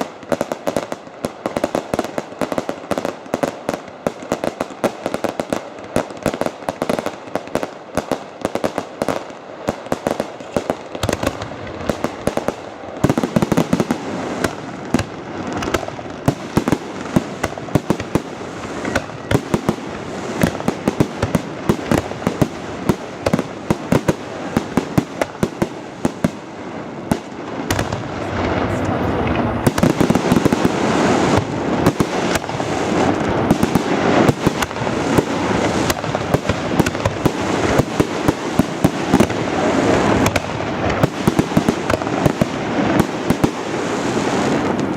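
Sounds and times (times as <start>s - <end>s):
fireworks bangs: 0.0s - 44.9s
fireworks crackle: 0.0s - 44.9s.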